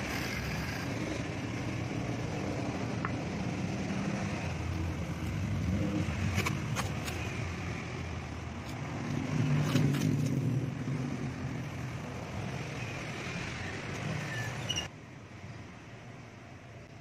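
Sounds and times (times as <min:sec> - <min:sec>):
vehicle engine rumble: 0:00.0 - 0:14.9.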